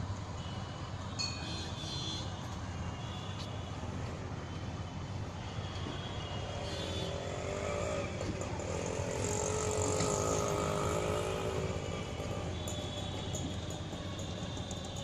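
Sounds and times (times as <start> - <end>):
wavering engine-like hum: 0.0 - 15.0.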